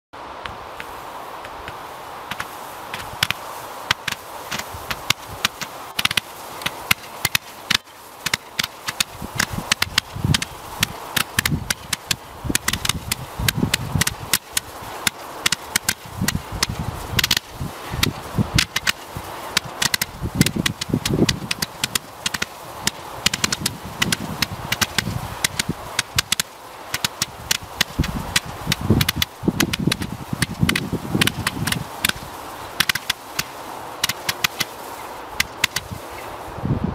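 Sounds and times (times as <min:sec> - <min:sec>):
firework pops and cracks: 0:01.7 - 0:34.8, 0:35.4 - 0:36.0.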